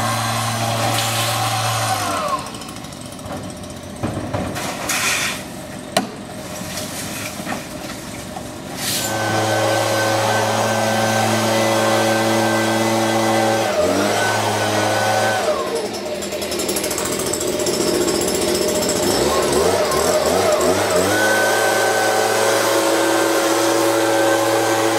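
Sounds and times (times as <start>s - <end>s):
gas leaf blower running: 0.0s - 4.2s, 5.3s - 24.9s.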